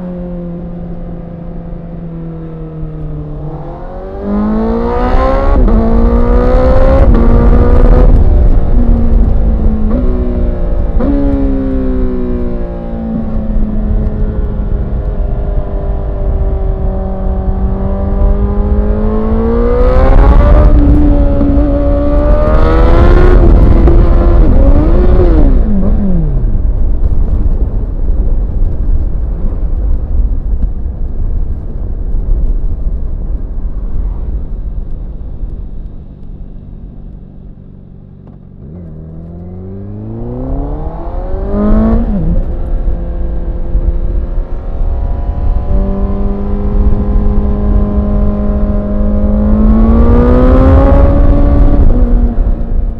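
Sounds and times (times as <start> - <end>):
motorcycle engine revving: 0.0 - 27.2, 36.0 - 52.9.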